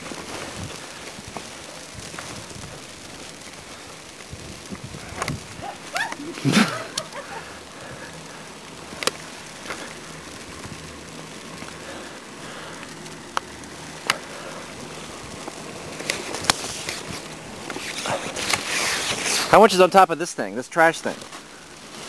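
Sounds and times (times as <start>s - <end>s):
footsteps crunching through snow: 0.0s - 12.3s, 12.9s - 20.1s.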